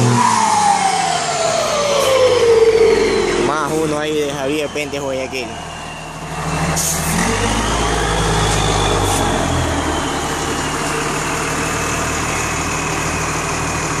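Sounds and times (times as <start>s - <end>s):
diesel engine running: 0.0s - 14.0s
turbocharger whistling: 0.0s - 14.0s.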